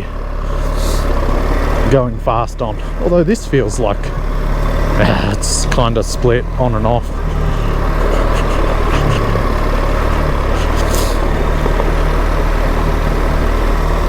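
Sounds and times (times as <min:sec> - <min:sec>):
motorcycle engine running: 0:00.0 - 0:14.0
tyre noise: 0:02.7 - 0:14.0.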